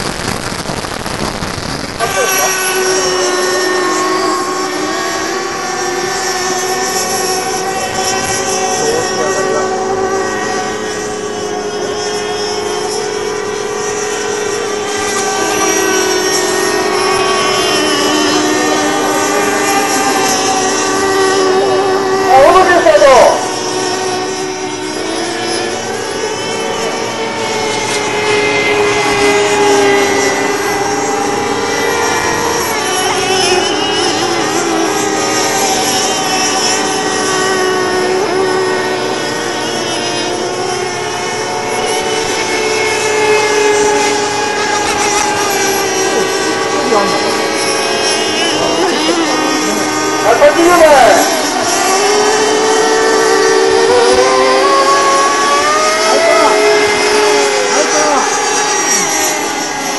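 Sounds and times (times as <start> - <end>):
racing boat engines whining: 0.0 - 59.9.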